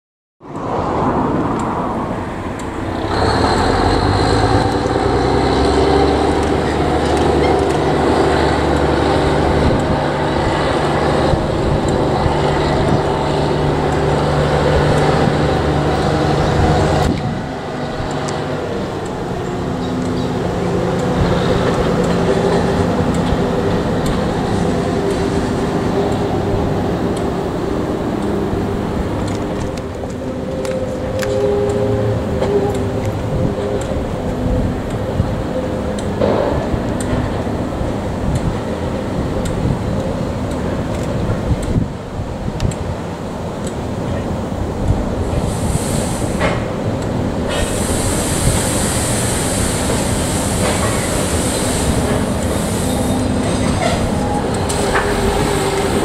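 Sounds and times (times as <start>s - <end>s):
diesel locomotive engine droning: 0.4s - 56.0s.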